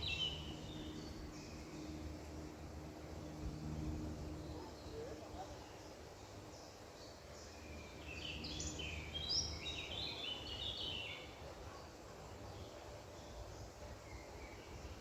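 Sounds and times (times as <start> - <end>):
songbird singing: 0.0 - 2.6, 4.2 - 15.0.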